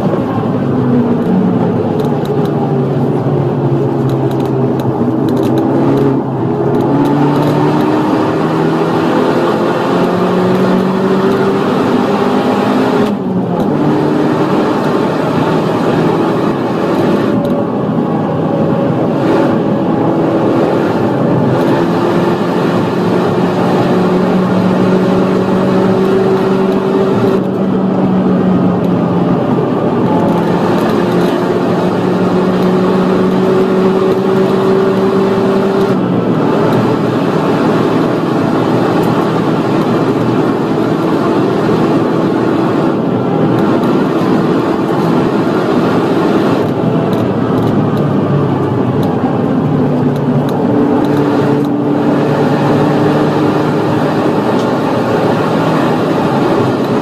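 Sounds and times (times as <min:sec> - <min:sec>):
car engine at full throttle: 0:00.0 - 0:57.0
wind and tyre noise: 0:00.0 - 0:57.0.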